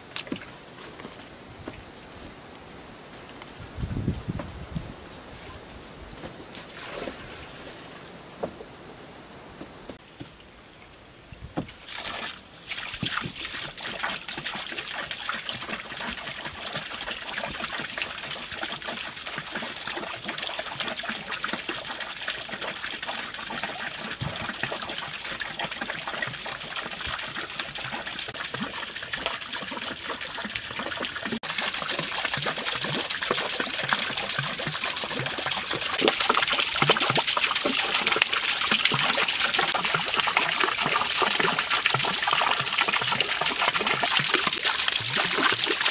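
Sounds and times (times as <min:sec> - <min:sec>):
water splashing into pond: 0:00.0 - 0:01.8, 0:06.3 - 0:08.6, 0:10.0 - 0:45.9.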